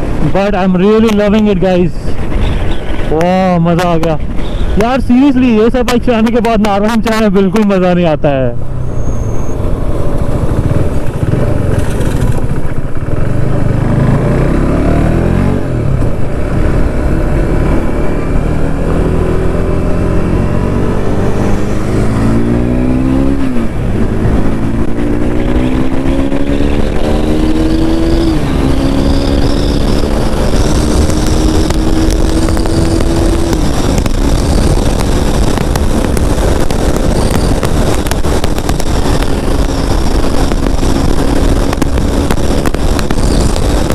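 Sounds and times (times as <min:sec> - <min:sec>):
motorcycle engine accelerating: 0:08.6 - 0:43.9.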